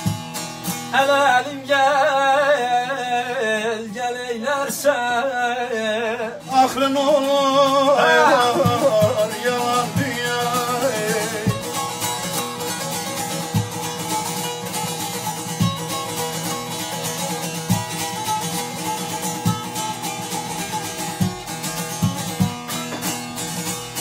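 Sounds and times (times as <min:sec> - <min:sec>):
plucked long-necked lute: 0:00.0 - 0:04.1, 0:04.7 - 0:24.0.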